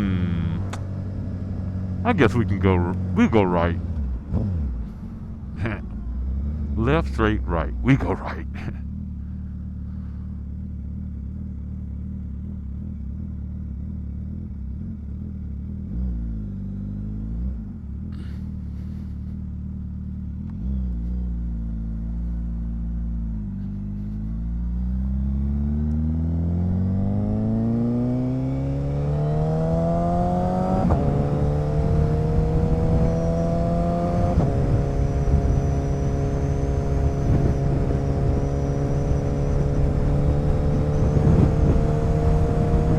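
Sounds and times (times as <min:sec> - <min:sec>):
motorcycle engine accelerating: 0:00.0 - 0:08.0, 0:08.6 - 0:42.9.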